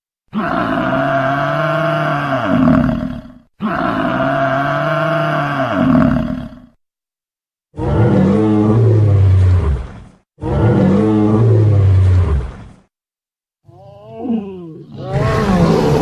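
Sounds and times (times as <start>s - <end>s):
dinosaur roar: 0.3s - 6.8s, 7.7s - 12.7s, 13.8s - 16.0s.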